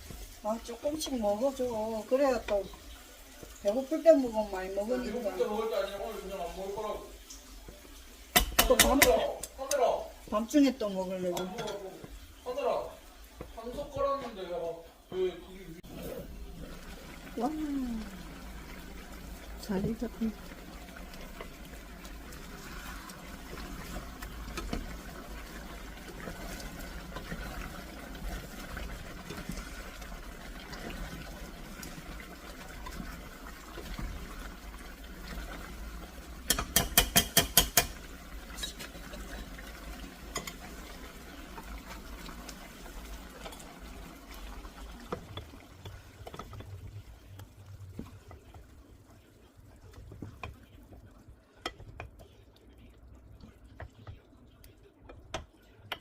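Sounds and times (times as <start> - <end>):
sauce simmering in a pot: 0.0 - 56.0.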